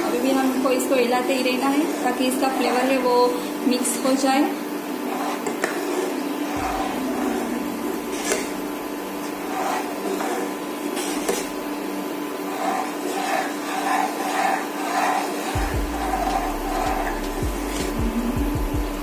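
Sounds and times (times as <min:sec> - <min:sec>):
spoon stirring and scraping pan: 0:00.0 - 0:18.0
steady hum: 0:00.0 - 0:19.0.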